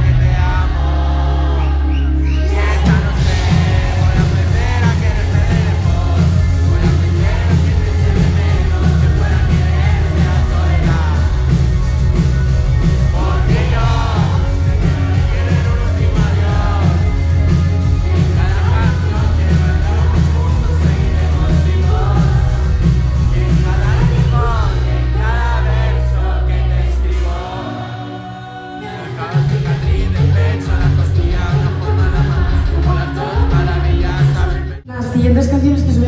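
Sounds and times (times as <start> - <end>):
live pop rock band: 0.0 - 34.8
person singing: 1.9 - 12.2, 12.9 - 34.9.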